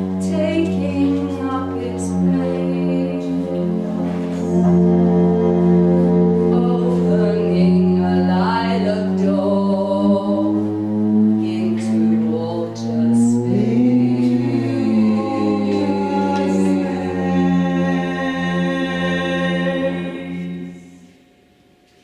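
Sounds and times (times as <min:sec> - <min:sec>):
voices singing sliding held notes: 0:00.0 - 0:21.2
low steady drone: 0:00.0 - 0:22.0.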